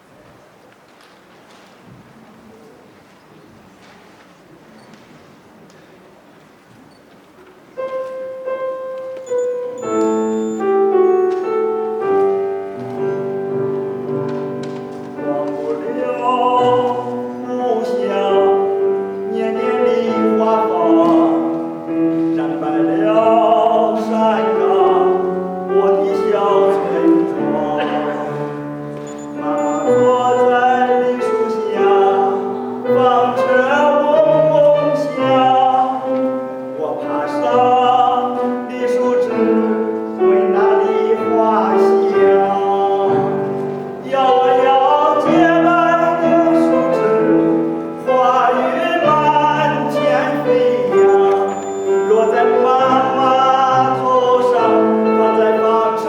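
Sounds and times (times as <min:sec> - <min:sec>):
instrumental accompaniment: 0:07.4 - 0:56.0
classical singing with vibrato: 0:07.7 - 0:56.0.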